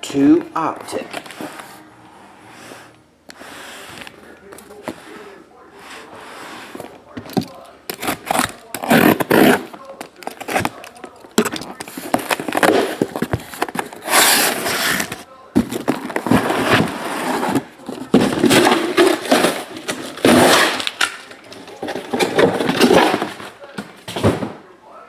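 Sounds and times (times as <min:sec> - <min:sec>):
cardboard scraping: 0:01.1 - 0:24.6.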